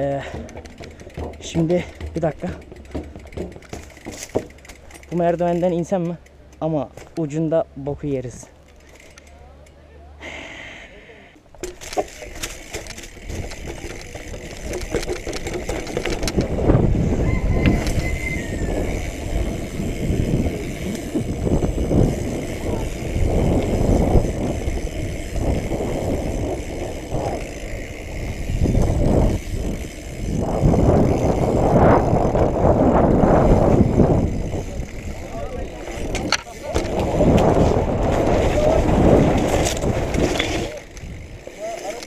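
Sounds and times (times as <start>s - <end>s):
bike tyres rumbling on cobblestones: 0.0s - 7.5s, 11.4s - 42.0s.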